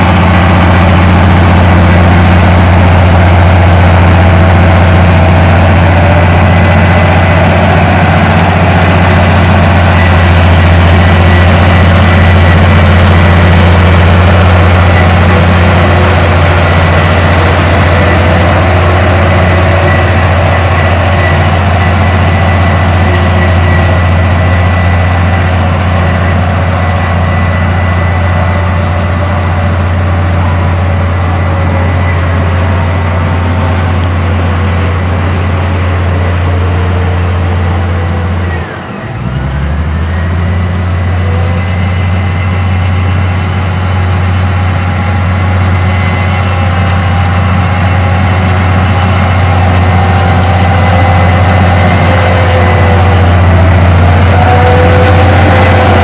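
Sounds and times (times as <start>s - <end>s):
bulldozer diesel engine running: 0.0s - 56.0s
faint engine whine: 0.0s - 56.0s.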